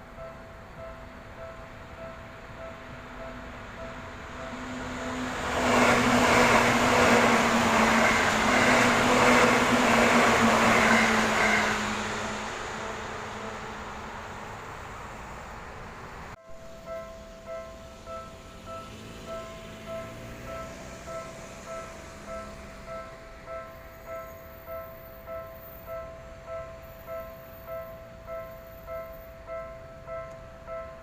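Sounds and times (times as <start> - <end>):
level crossing warning bell: 0.0 - 14.4, 16.4 - 31.0
electric train passing: 0.0 - 31.0.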